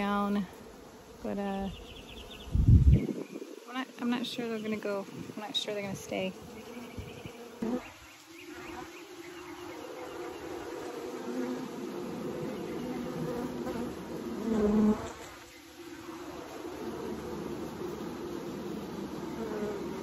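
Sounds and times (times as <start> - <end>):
bees buzzing in a mass: 0.0 - 20.0
single bee buzzing close: 0.0 - 20.0.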